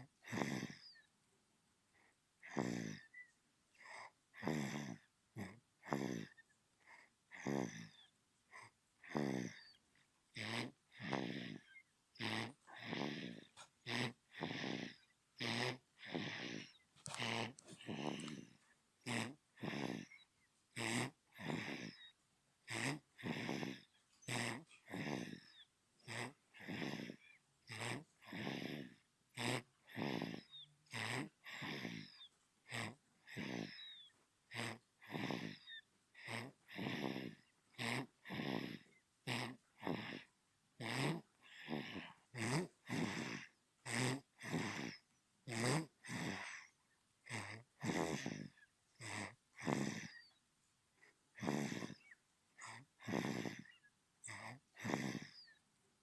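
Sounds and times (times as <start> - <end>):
baby snoring: 0.0 - 1.1, 2.4 - 50.4, 51.0 - 55.6.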